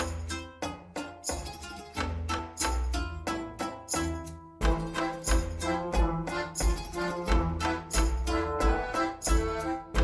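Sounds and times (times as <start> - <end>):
music with strings and bass beat: 0.0 - 10.0.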